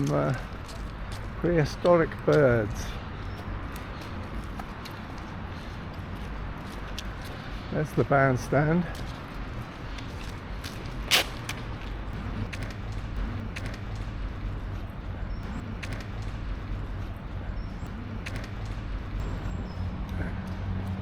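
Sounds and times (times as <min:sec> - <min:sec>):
distant traffic hum: 0:00.0 - 0:21.0
footstep clicks: 0:00.0 - 0:21.0.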